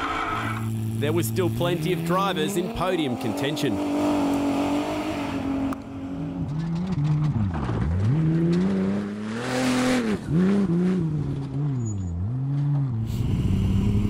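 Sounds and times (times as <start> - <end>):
buggy engines revving: 0.0 - 14.0
tyre and dirt rush: 0.0 - 14.0.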